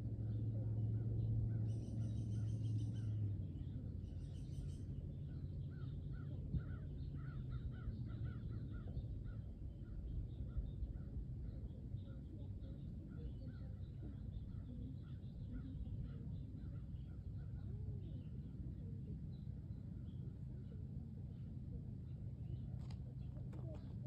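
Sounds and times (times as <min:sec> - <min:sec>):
low steady rumble: 0:00.0 - 0:24.0
wild birds calling and chirping: 0:00.0 - 0:24.0.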